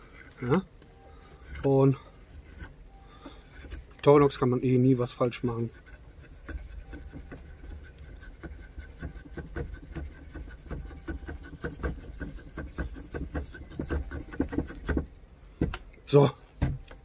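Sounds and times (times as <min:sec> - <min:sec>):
knife scraping wood: 0:00.0 - 0:15.2.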